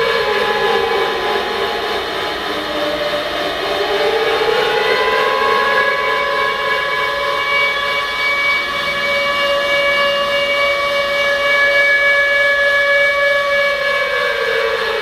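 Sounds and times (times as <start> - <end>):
warning siren sustained tone: 0.0 - 15.0.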